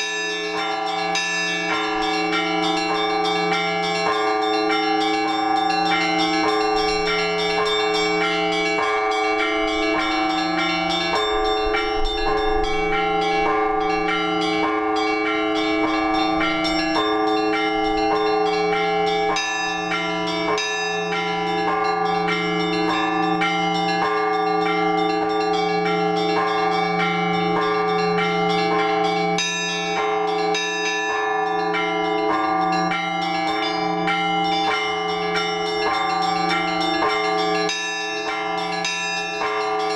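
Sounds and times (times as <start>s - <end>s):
deep church bell ringing: 0.0s - 39.9s
small high church bells: 0.0s - 39.9s.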